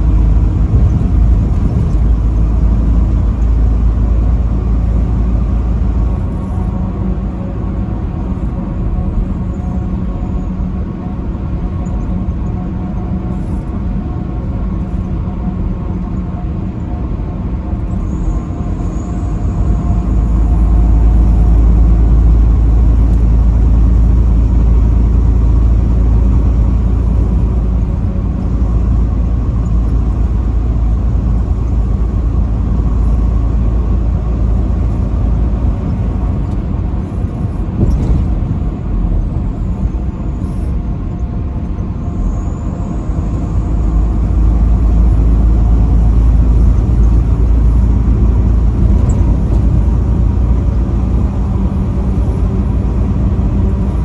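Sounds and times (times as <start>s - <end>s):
deep engine rumble: 0.0s - 54.0s
truck engine and road drone: 0.0s - 54.0s.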